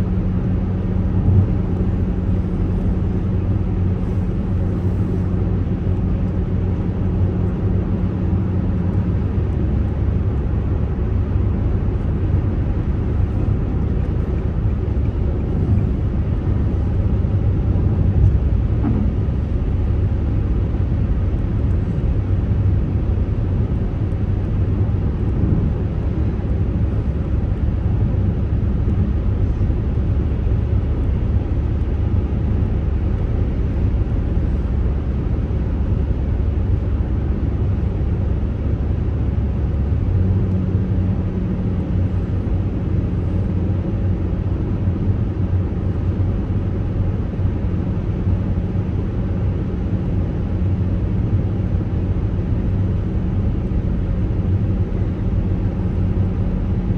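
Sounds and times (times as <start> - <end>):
tyre and engine rumble: 0.0 - 56.9.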